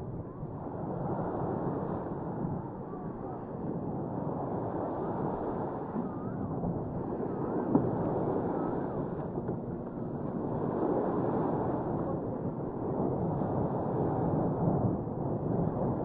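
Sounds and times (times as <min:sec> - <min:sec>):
beach ambient noise: 0:00.0 - 0:16.0
wind on microphone: 0:00.0 - 0:16.0.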